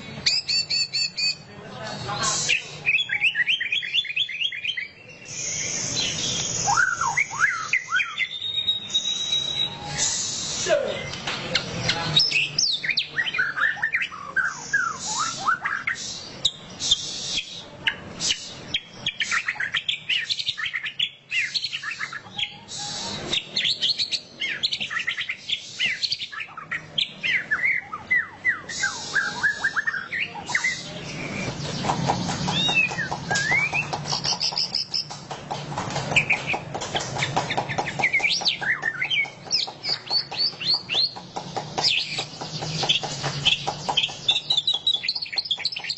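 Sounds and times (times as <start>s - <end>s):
bird singing chirps and whistles: 0.2s - 1.4s, 2.1s - 11.2s, 11.9s - 31.8s, 32.4s - 35.1s, 37.9s - 41.2s, 41.8s - 45.9s.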